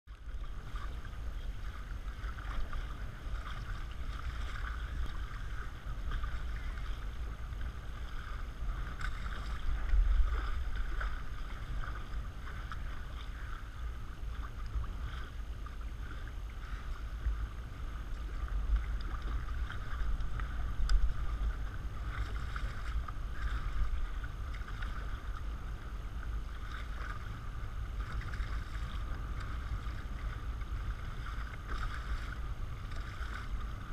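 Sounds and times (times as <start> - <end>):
water splashing along a hull: 0.1 - 33.9
wind rumbling on microphone: 0.1 - 33.9.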